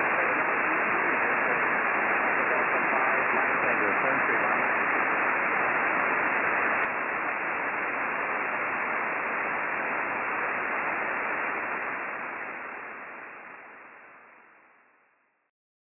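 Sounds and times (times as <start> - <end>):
radio receiver static hiss: 0.0 - 15.5.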